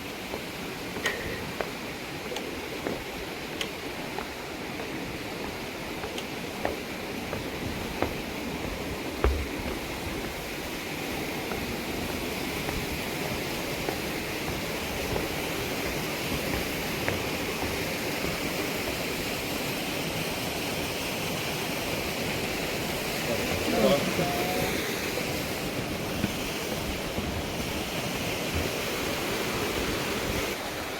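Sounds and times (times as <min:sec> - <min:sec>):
stream rushing: 0:00.0 - 0:30.9.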